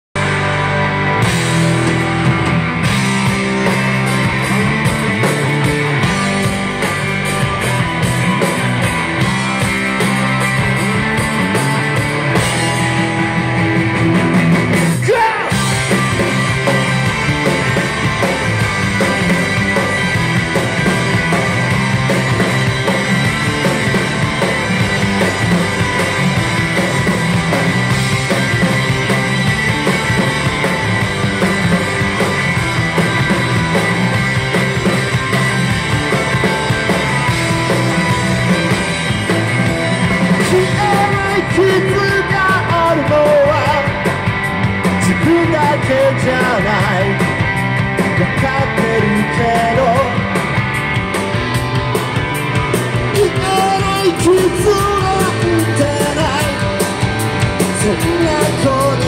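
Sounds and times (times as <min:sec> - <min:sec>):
live rock band playing: 0:00.2 - 0:59.0.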